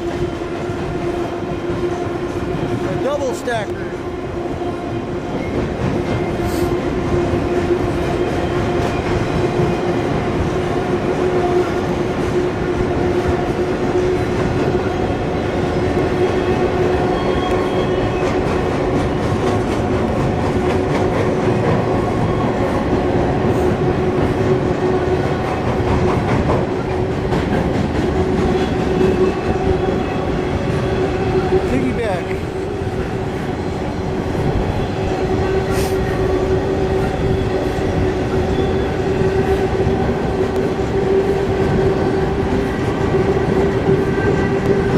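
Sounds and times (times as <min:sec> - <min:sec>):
freight train rumbling over bridge: 0:00.0 - 0:44.9.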